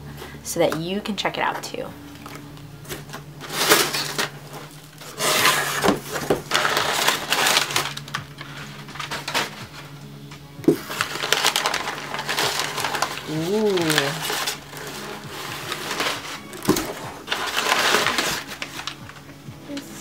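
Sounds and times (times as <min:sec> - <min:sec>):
packing paper rustling and crinkling: 0:02.2 - 0:10.0, 0:10.6 - 0:20.0.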